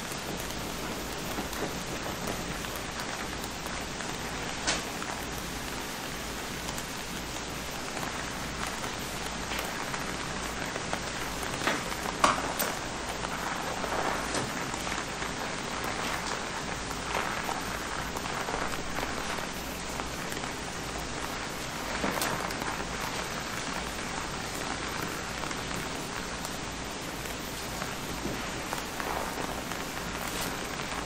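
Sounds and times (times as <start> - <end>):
crackles and pops: 0.0 - 31.0
gas torch flame hissing: 0.0 - 31.0.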